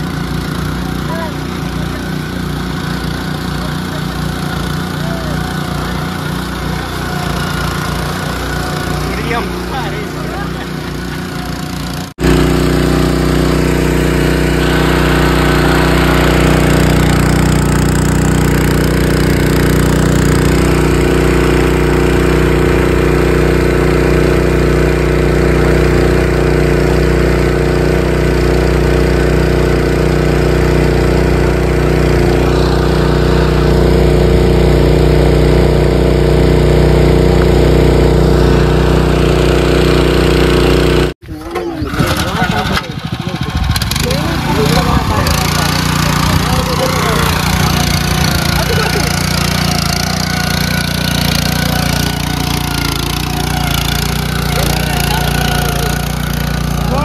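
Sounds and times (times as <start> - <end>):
petrol engine running steadily: 0.0 - 57.0.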